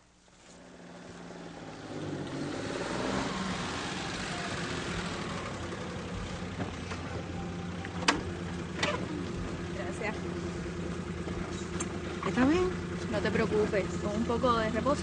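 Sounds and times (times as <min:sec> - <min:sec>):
car engine running: 0:00.5 - 0:15.0.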